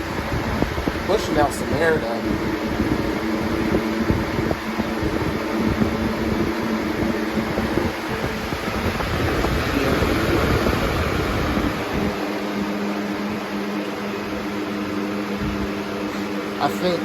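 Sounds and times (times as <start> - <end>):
airflow buffeting microphone: 0.0 - 17.0
box fan whooshing: 0.0 - 17.0
fan motor hum: 0.0 - 17.0.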